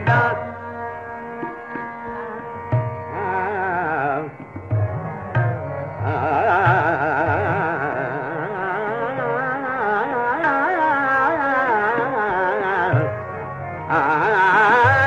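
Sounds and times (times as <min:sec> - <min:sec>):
man singing classical vocal: 0:00.0 - 0:02.5, 0:03.1 - 0:15.0
tabla strokes: 0:00.0 - 0:15.0.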